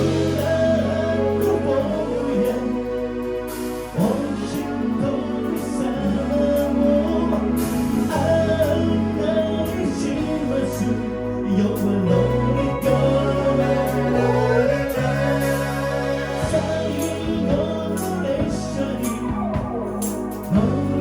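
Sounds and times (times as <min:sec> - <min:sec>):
drums with hi-hat strokes: 0:00.0 - 0:10.5, 0:11.7 - 0:21.0
held bass notes: 0:00.0 - 0:21.0
live band playing: 0:00.0 - 0:21.0
person singing lead vocal: 0:00.0 - 0:21.0.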